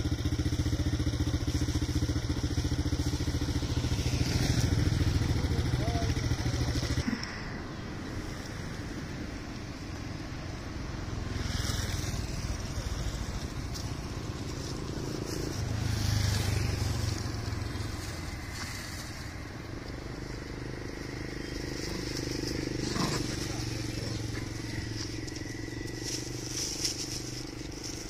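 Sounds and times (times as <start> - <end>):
vehicle engines running: 0.0 - 28.0
vehicles passing: 0.0 - 28.0.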